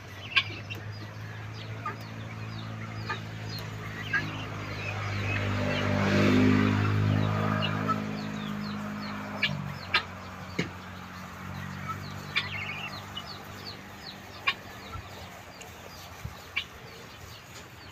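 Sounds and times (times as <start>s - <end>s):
guinea fowl calls: 0.1s - 5.9s, 6.6s - 17.9s.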